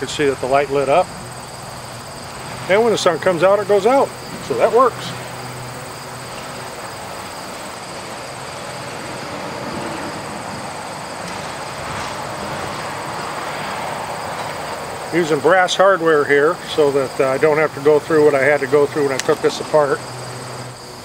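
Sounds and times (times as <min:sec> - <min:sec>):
vehicle passing drone: 0:00.0 - 0:21.0.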